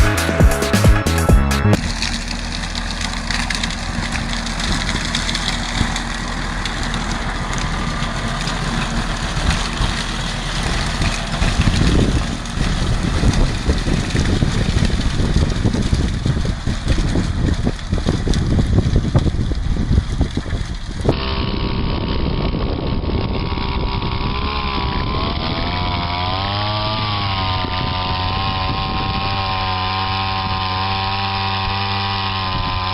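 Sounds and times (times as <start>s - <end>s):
machine engine droning: 0.0s - 32.9s.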